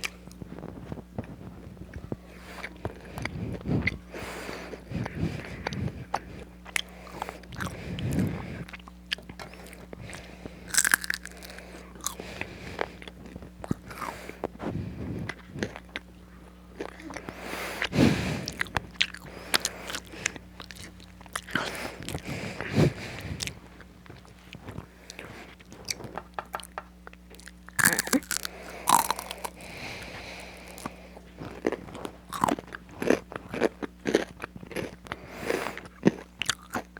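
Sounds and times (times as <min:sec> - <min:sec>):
faint steady hum: 0:00.0 - 0:36.9
person chewing crispy fries: 0:00.0 - 0:36.9.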